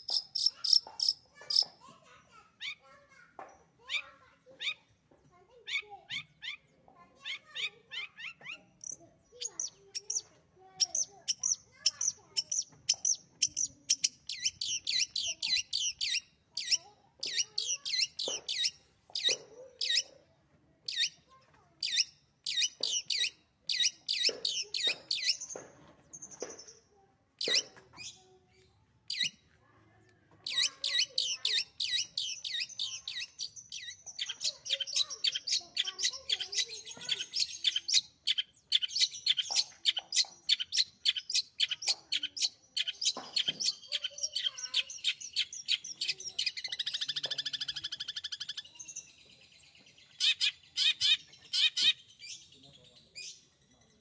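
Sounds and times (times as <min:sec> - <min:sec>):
bird chattering song: 0:00.0 - 0:03.0, 0:03.8 - 0:54.0.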